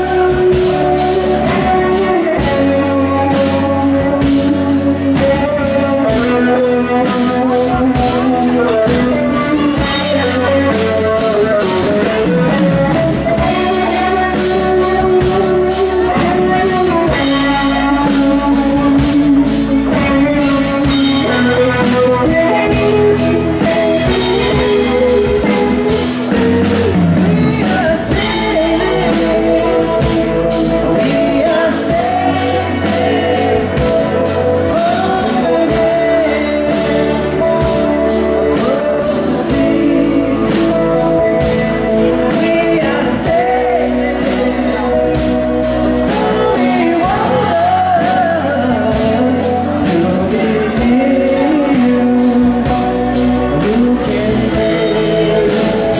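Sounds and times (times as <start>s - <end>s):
live band playing: 0.0s - 55.9s
man singing: 0.0s - 55.9s
woman singing: 0.0s - 55.9s.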